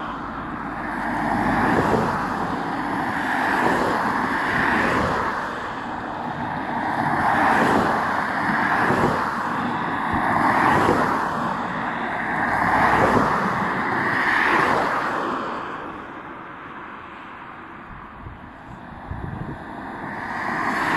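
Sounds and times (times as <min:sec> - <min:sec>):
cars driving past: 0:00.0 - 0:20.9.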